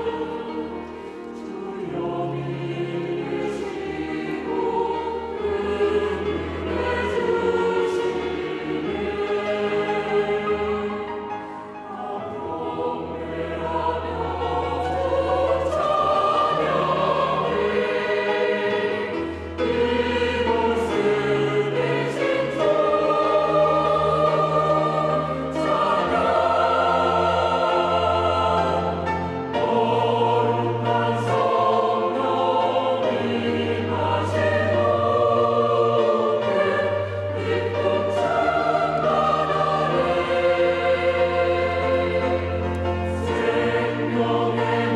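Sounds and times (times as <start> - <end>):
church choir singing in harmony: 0.0 - 44.9.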